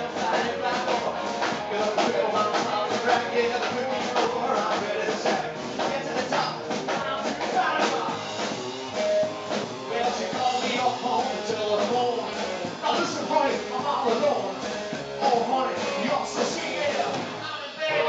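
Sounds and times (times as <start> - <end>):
man singing lead vocal: 0.0 - 8.5, 9.9 - 18.0
drum kit beat: 0.0 - 18.0
electric guitar: 0.0 - 18.0
upright bass: 0.0 - 18.0.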